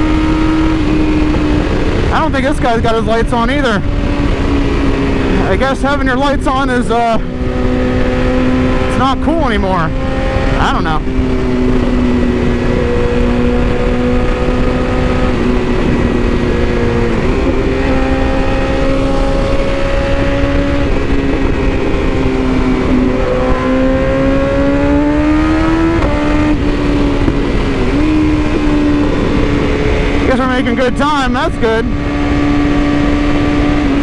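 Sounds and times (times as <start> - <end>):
motorcycle engine cruising: 0.0 - 34.0
wind rush: 0.0 - 34.0.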